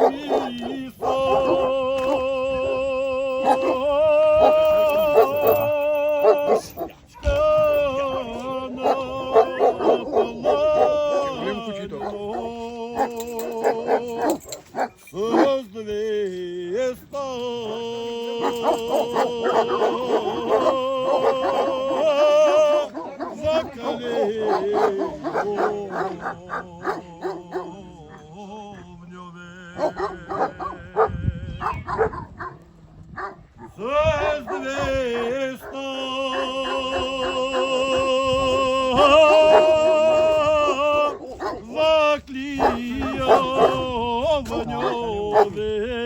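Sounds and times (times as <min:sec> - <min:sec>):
dogs barking and yelping: 0:00.0 - 0:02.8, 0:03.4 - 0:07.3, 0:07.9 - 0:15.6, 0:17.7 - 0:28.4, 0:29.8 - 0:41.8, 0:42.5 - 0:45.6
person singing long notes: 0:00.0 - 0:31.8, 0:33.8 - 0:46.0.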